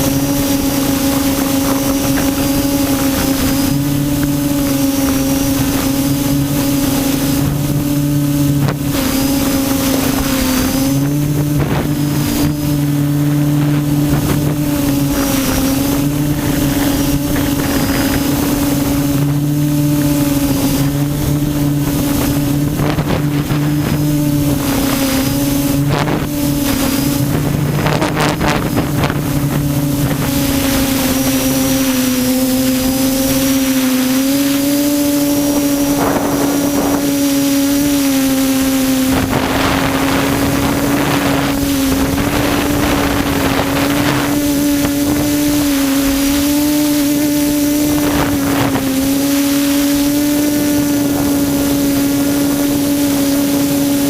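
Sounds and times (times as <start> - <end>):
drone propellers buzzing: 0.0 - 54.0
lower hum: 0.0 - 54.0
wind on microphone: 0.0 - 54.0.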